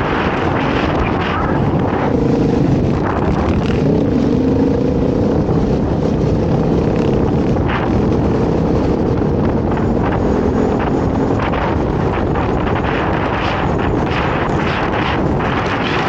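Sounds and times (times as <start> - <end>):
dirt bike engine running: 0.0 - 16.0
wind buffeting microphone: 0.0 - 16.0.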